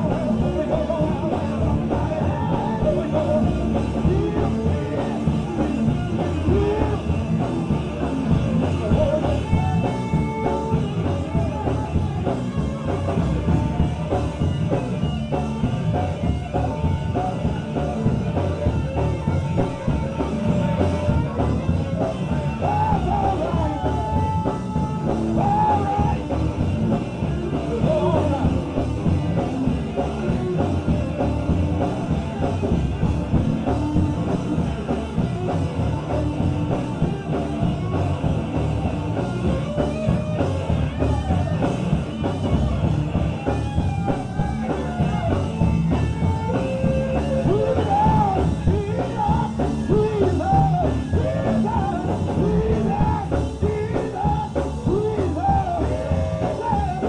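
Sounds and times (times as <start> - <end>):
drum kit: 0.0 - 57.0
gospel band playing: 0.0 - 57.0
voices singing: 0.0 - 57.0.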